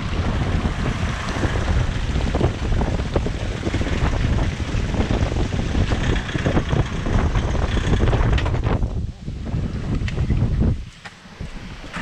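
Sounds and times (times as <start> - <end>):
car rumbling on rough track: 0.0 - 12.0
wind buffeting microphone: 0.0 - 12.0.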